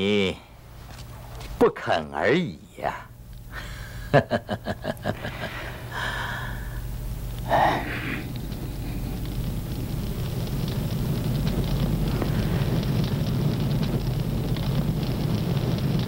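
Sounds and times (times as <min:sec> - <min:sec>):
steady noise: 0:00.0 - 0:16.0.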